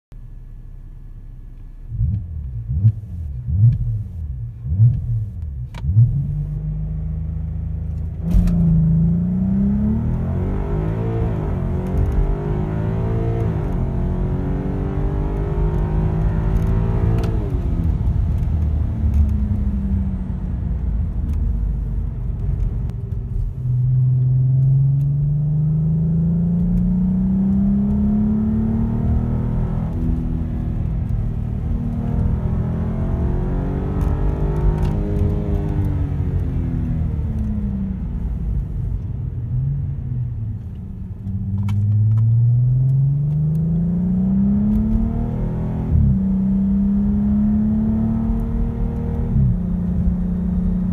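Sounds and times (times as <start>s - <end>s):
car engine accelerating: 1.5s - 50.9s.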